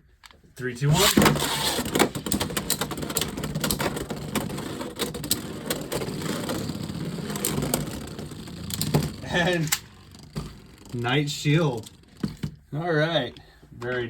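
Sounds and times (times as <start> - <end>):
spinning tops whirring: 0.8 - 13.3
spinning tops clicking together: 1.0 - 12.5.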